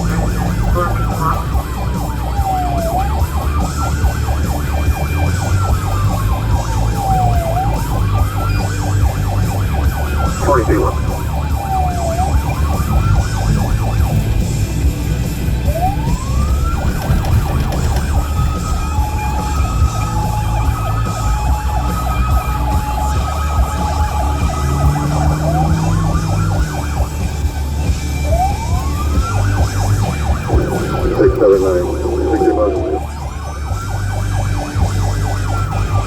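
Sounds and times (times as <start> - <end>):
engine and road rumble: 0.0 - 36.0
police siren wailing: 0.0 - 36.0.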